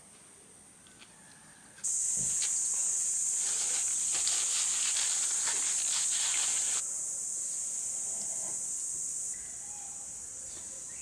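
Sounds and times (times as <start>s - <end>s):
insects chorus: 1.1s - 11.0s.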